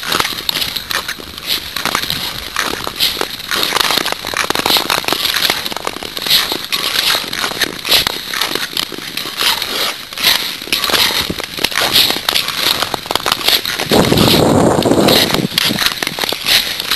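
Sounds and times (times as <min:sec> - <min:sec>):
ice skates scraping on ice: 0:00.0 - 0:16.9.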